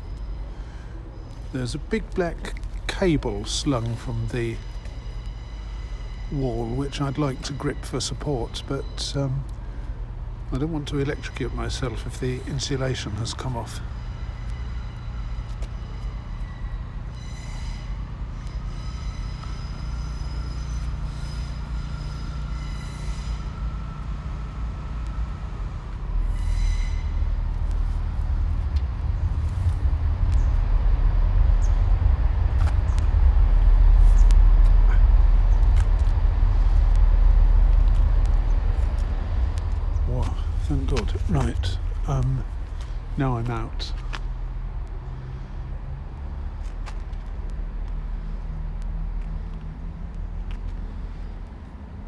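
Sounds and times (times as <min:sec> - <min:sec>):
high-pitched wheel squeals: 0:00.0 - 0:09.9, 0:10.6 - 0:43.7
train rumbling over bridge: 0:00.0 - 0:52.0.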